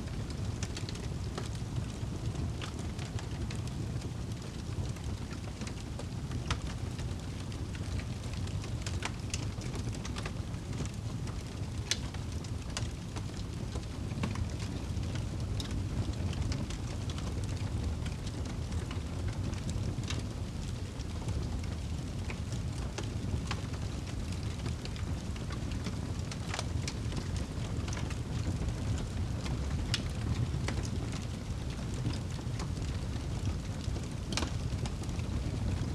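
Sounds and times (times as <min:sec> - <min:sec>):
low rumble of wind: 0:00.0 - 0:35.9
wood fire crackling: 0:00.0 - 0:35.9.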